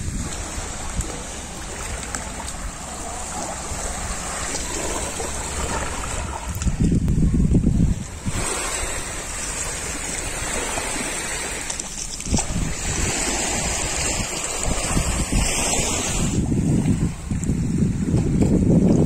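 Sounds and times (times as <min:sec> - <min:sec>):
sea waves washing onto beach: 0:00.0 - 0:19.0
wind rumbling on microphone: 0:00.0 - 0:19.0.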